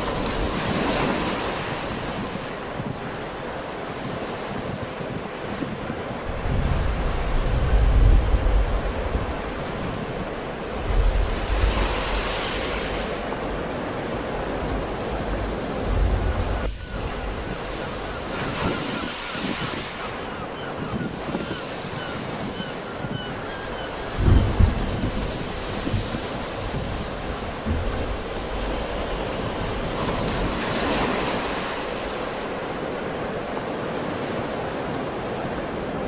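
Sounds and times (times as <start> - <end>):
sea waves breaking: 0.0 - 36.0
wind buffeting microphone: 0.0 - 36.0.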